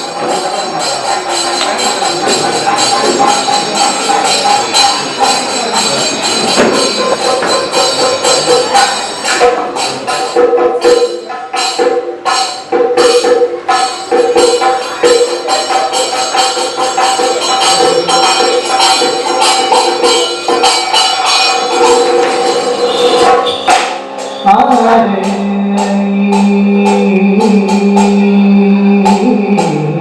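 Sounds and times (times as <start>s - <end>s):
steady held tones: 0.0s - 12.7s, 13.6s - 30.0s
metal hand cymbals: 0.0s - 30.0s.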